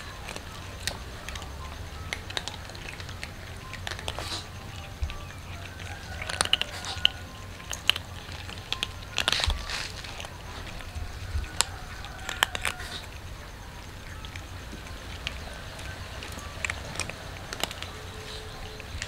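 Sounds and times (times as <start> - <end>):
cats crunching dry kibble: 0.0 - 19.0.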